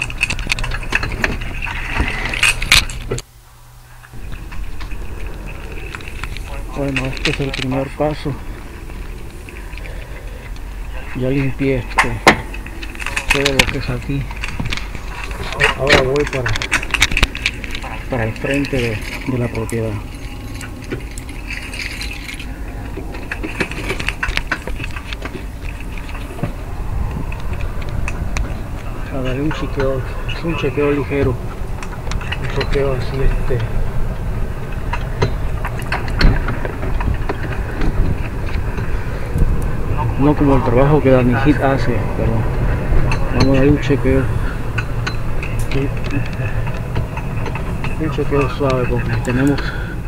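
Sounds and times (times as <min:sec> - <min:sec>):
jangling rattling clicks: 0:00.0 - 0:03.2, 0:04.2 - 0:39.7, 0:43.0 - 0:50.0
steady hum: 0:00.0 - 0:50.0
steady low rumble: 0:00.0 - 0:50.0.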